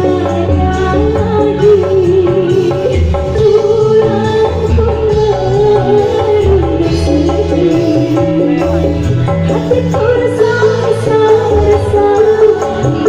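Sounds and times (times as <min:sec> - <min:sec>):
band music with hand drum: 0:00.0 - 0:13.0.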